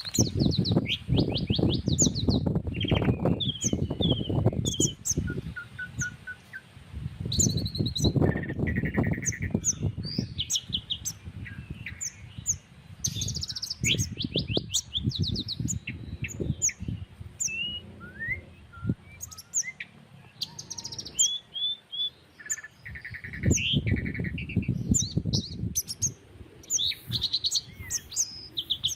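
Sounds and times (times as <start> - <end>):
wind buffeting microphone: 0.0 - 21.3, 22.4 - 28.9
small birds chirping and trilling: 0.0 - 28.9.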